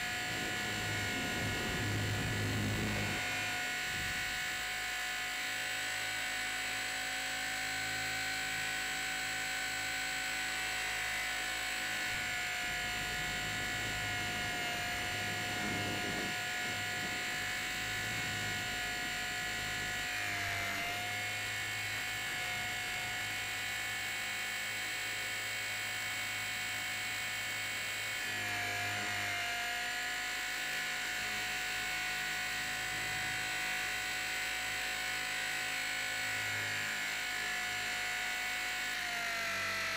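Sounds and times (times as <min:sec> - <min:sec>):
helicopter motor whine and buzz: 0:00.0 - 0:39.9.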